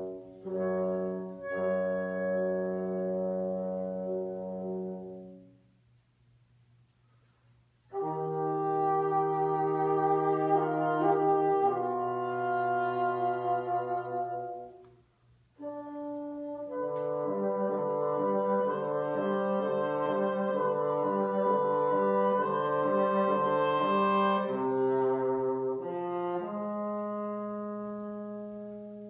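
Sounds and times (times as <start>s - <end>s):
wind and brass ensemble chords: 0.0s - 29.0s.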